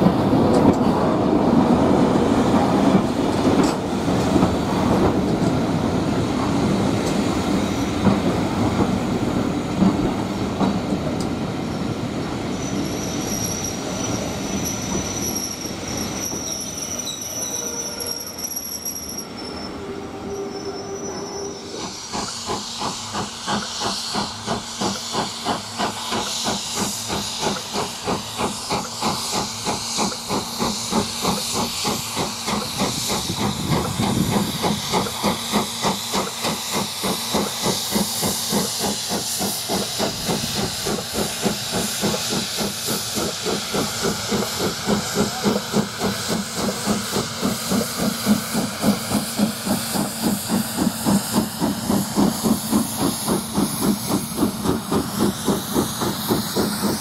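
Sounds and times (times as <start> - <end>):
steam hiss: 0.0 - 57.0.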